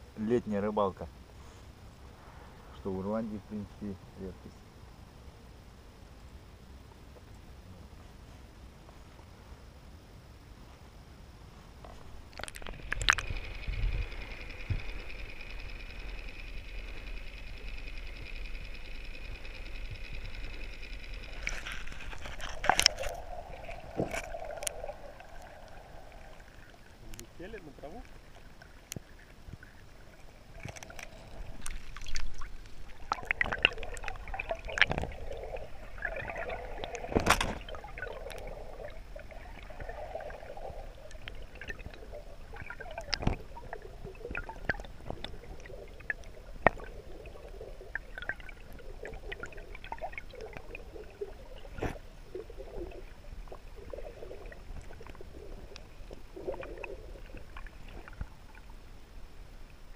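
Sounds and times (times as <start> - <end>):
muffled underwater water rushing: 11.7 - 59.9.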